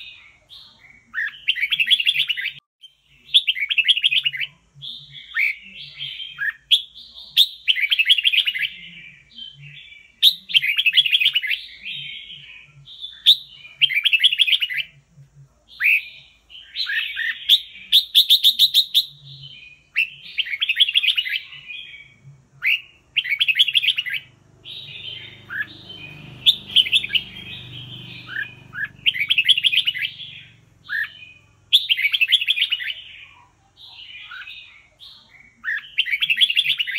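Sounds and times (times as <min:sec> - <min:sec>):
bird singing warbled phrases: 0:00.0 - 0:36.9.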